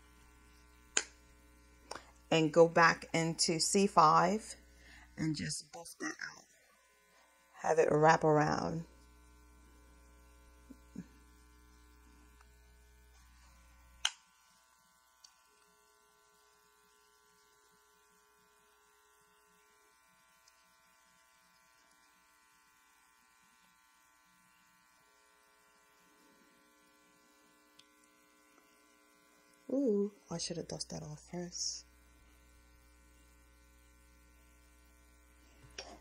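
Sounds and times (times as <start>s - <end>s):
faint electrical hum: 0.0s - 36.0s.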